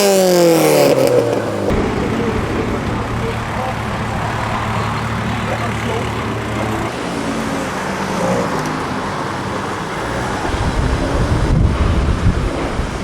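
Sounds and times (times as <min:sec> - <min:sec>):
car engine: 0:00.0 - 0:13.0
traffic noise: 0:00.0 - 0:13.0.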